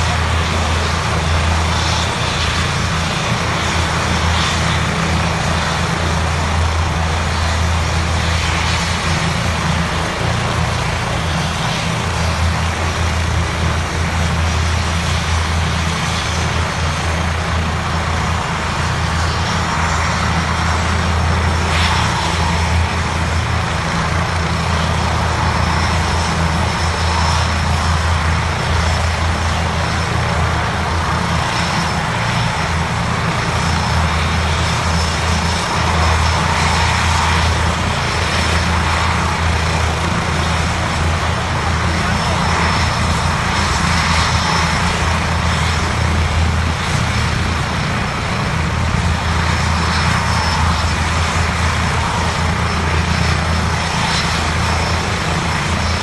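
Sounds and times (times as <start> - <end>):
faint turbine whine: 0.0 - 56.0
helicopter low drone: 0.0 - 56.0.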